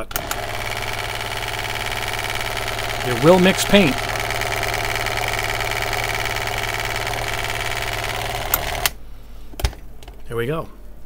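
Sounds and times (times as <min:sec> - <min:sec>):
nail polish shaker buzzing: 0:00.0 - 0:08.9.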